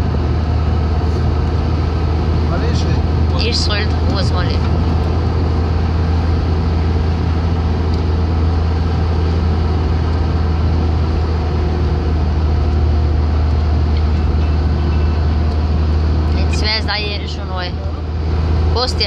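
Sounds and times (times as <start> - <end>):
car engine and tyre drone: 0.0 - 19.0.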